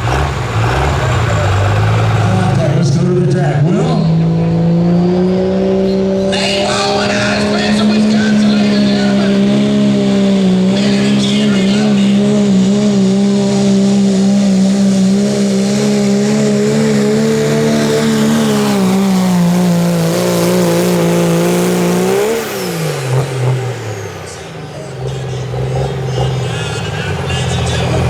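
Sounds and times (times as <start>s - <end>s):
pickup truck engine at high revs: 0.0s - 28.0s.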